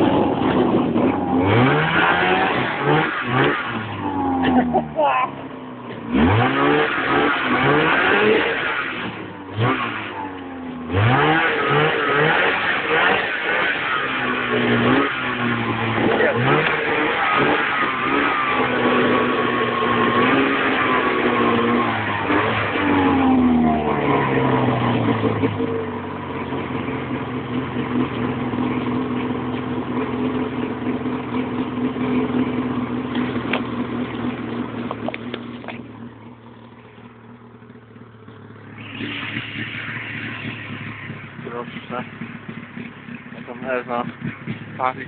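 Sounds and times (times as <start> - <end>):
snowmobile engine under throttle: 0.0 - 45.0.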